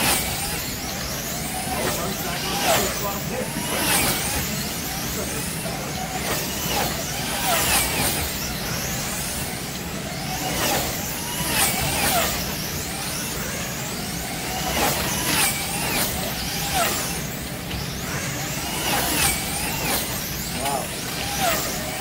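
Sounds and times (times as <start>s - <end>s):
slot car motors whining: 0.0s - 22.0s.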